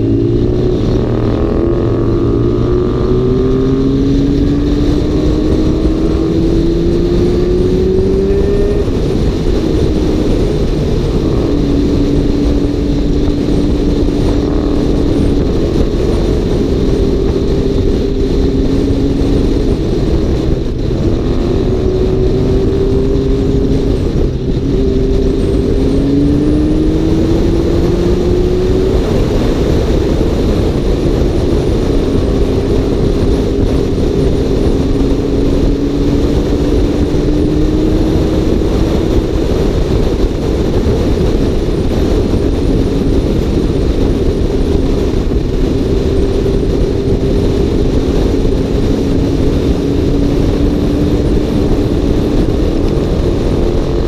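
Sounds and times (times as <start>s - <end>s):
road noise: 0.0s - 54.0s
vehicle engine accelerating: 0.0s - 54.0s.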